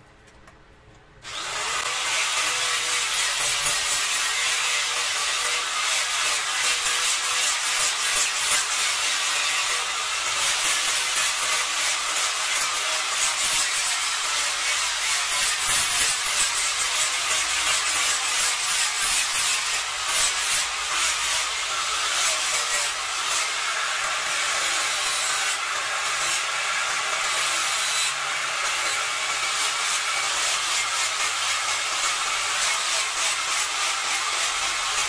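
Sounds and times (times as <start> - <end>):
angle grinder sanding wood: 1.2 - 35.0.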